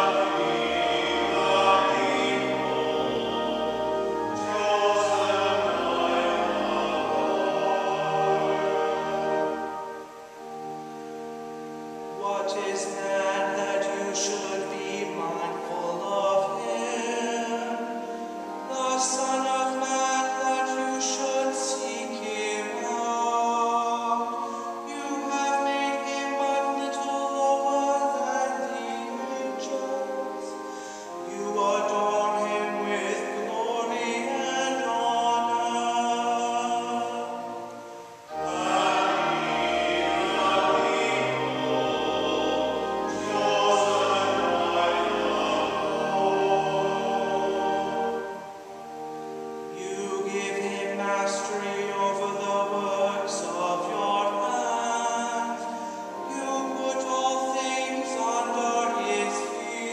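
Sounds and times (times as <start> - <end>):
organ chords: 0.0 - 59.9
voices singing: 0.0 - 59.9.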